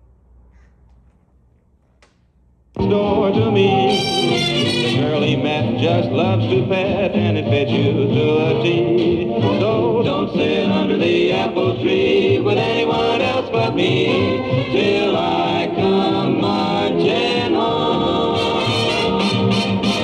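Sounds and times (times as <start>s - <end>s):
swing music with group singing: 2.8s - 20.0s.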